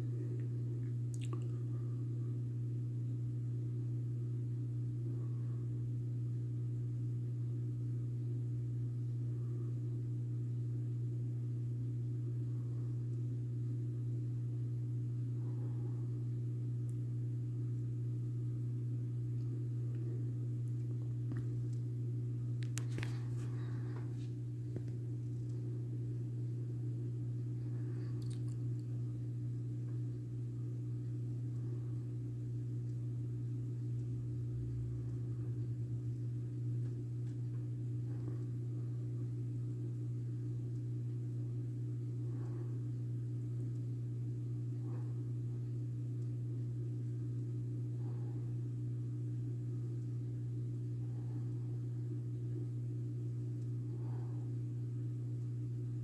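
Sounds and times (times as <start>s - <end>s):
ceiling fan motor humming: 0.0s - 56.0s.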